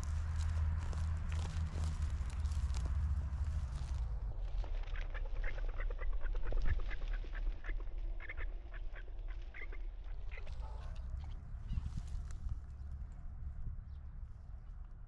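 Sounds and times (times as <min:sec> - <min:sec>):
wind rumble on microphone: 0:00.0 - 0:08.2, 0:09.1 - 0:15.0
birds calling: 0:00.0 - 0:14.1.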